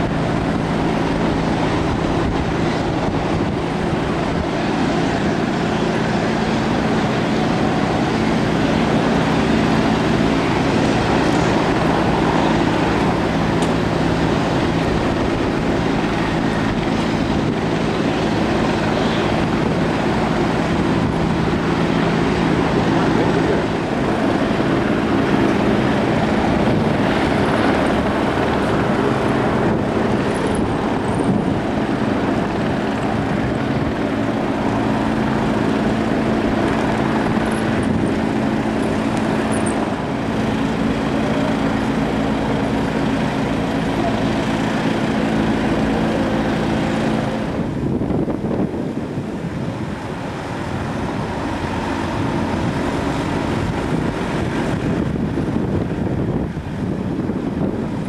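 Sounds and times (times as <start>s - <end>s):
steady hum: 0.0s - 58.0s
tractor engine running: 0.0s - 58.0s.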